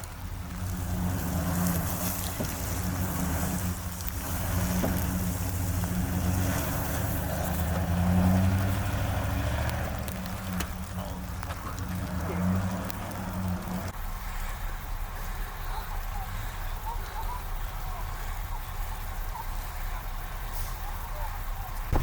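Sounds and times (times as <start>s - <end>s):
engine humming: 0.0s - 22.0s
hiss: 0.0s - 22.0s.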